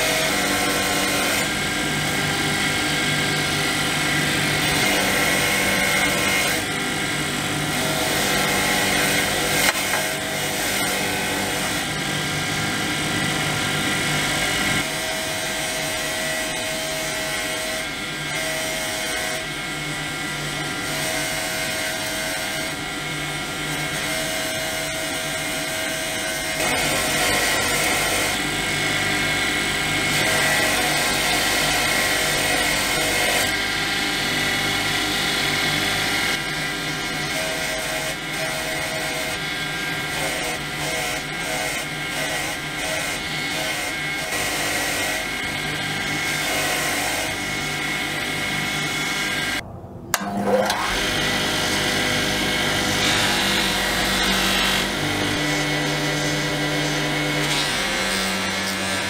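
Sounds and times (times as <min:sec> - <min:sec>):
bench grinder grinding metal: 0:00.0 - 0:49.6, 0:50.2 - 0:59.0
buffing motor running: 0:00.0 - 0:49.6, 0:50.7 - 0:59.0.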